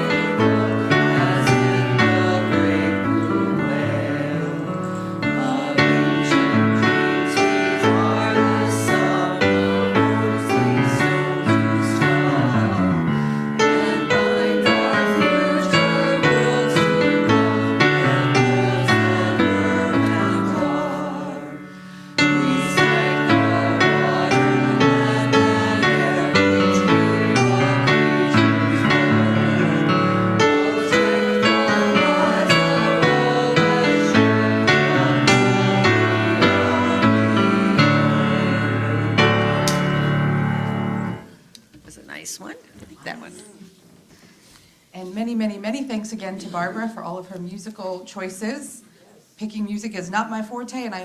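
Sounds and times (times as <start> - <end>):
congregation singing a hymn: 0.0 - 41.3
piano accompaniment: 0.0 - 41.4.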